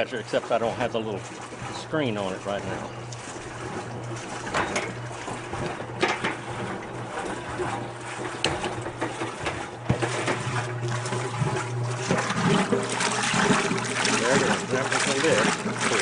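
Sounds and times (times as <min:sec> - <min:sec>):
washing machine motor humming: 0:00.0 - 0:16.0
water splashing into a tub: 0:00.0 - 0:16.0.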